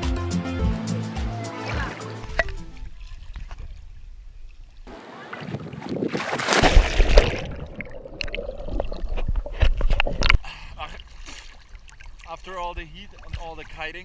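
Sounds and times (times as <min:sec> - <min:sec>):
water splashing and sloshing: 0:01.0 - 0:14.0.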